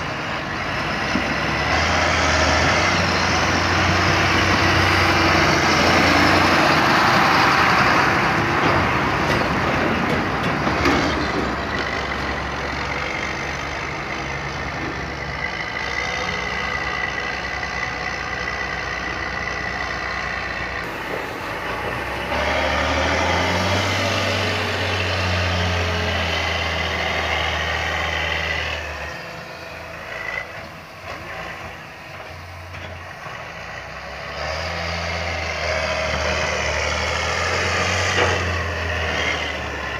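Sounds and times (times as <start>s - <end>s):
diesel tractor engines running: 0.0s - 39.9s.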